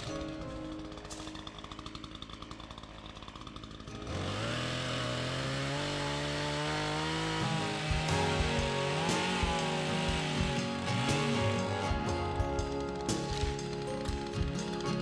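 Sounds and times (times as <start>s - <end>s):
background music: 0.0s - 15.0s
power tool running: 0.0s - 15.0s.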